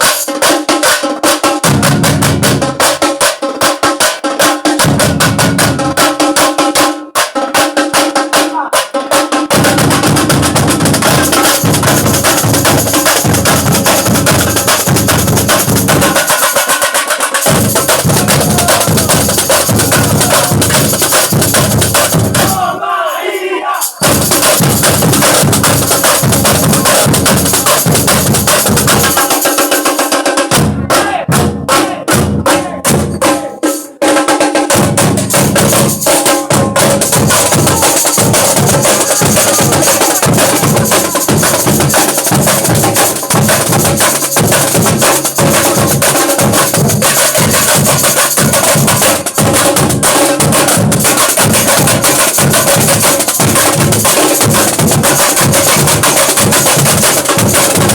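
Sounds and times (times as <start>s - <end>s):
drum troupe percussion rhythm: 0.0s - 57.9s.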